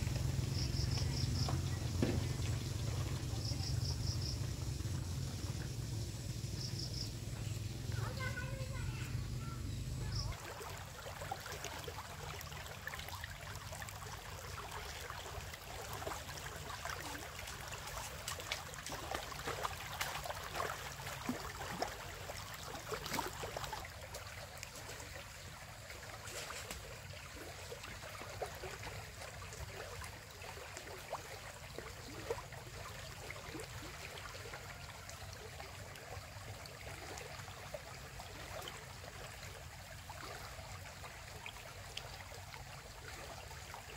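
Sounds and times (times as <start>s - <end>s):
running water: 0.0s - 43.9s.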